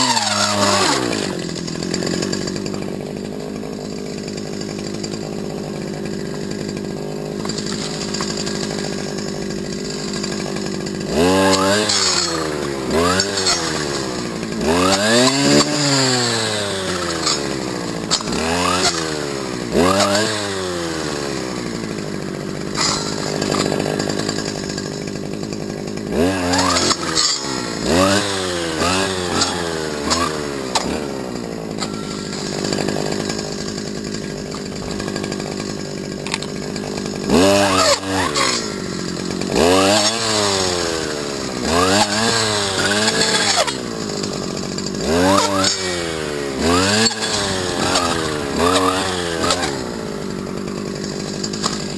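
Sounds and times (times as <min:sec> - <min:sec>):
brush cutter engine revving: 0:00.0 - 0:51.9.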